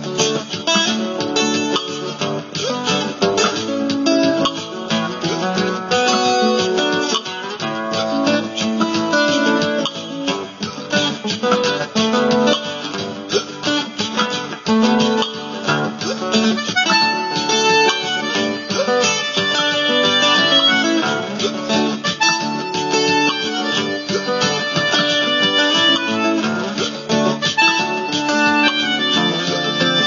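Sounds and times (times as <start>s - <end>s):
looped layered guitar music: 0.0s - 30.0s.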